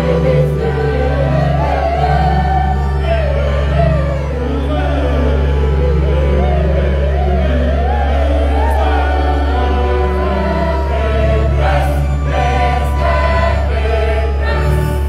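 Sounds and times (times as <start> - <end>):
church choir singing: 0.0 - 15.0
sustained organ: 0.0 - 15.0.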